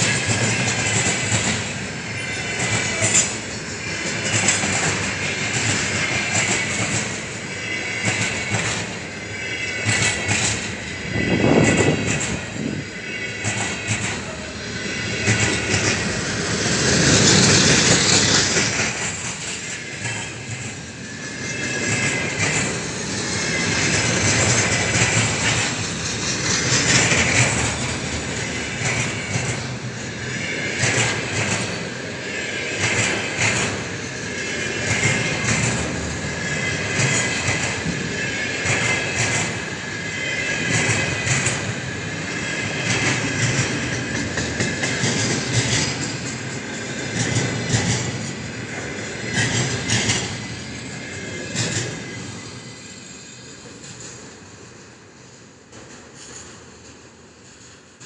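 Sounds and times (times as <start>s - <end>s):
wheels clacking over rail joints: 0.0s - 20.8s, 21.5s - 52.3s
train wheels rumbling on rails: 0.0s - 58.0s.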